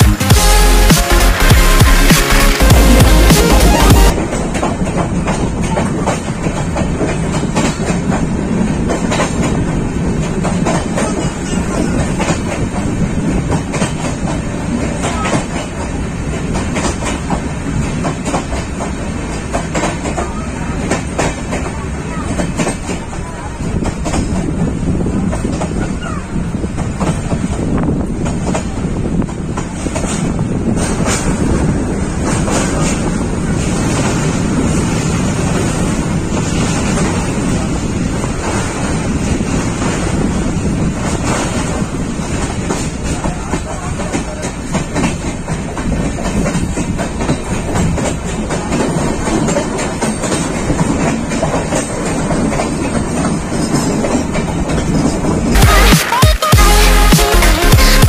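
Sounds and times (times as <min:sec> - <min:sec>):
train rumbling on track: 0:00.0 - 0:55.6
wheels clacking over rails: 0:04.1 - 0:55.6
wind buffeting microphone: 0:04.1 - 0:55.6.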